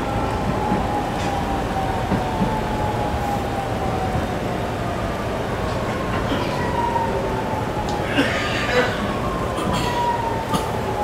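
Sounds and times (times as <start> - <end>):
wheel and track rumble: 0.0 - 11.0.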